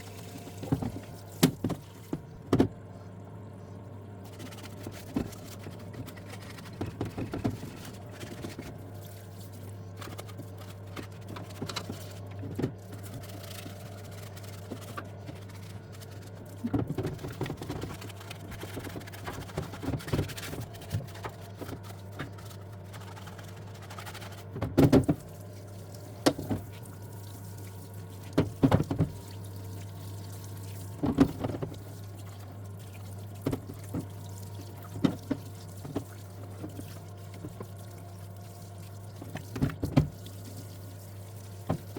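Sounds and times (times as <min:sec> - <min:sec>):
parts washer humming: 0:00.0 - 0:41.9.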